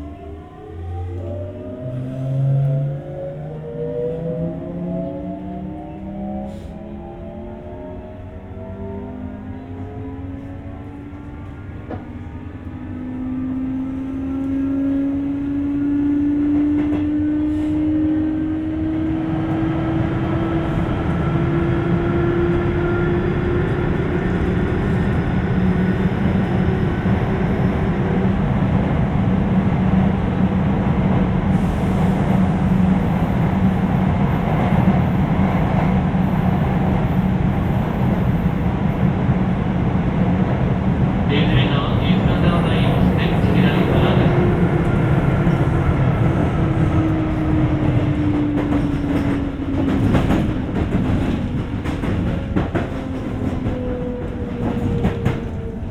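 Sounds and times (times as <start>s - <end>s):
rumble of wheels on rail: 0.0s - 55.9s
train inverter whine: 0.0s - 55.9s.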